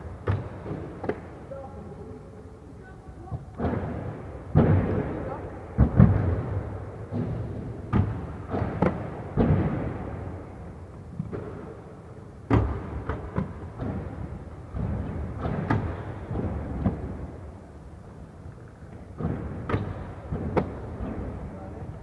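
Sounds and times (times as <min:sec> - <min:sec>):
skates landing on hard floor: 0:00.0 - 0:01.5, 0:03.3 - 0:22.0.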